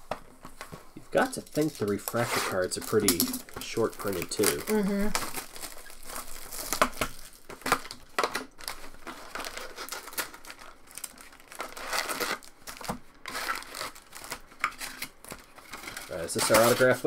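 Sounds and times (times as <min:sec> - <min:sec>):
card pack wrappers crinkling: 0:00.4 - 0:17.0
wrapper snaps: 0:01.2 - 0:17.0.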